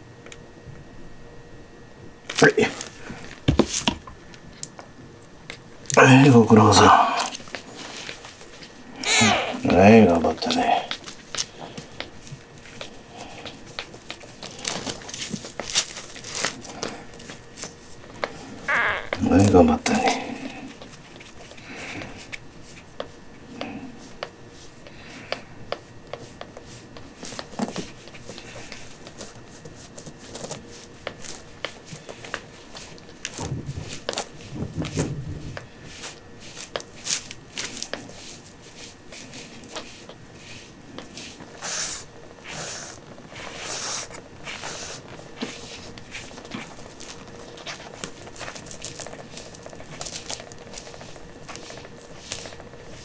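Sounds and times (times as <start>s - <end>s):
rubber glove rustling and crinkling: 2.2s - 4.7s, 7.3s - 53.0s.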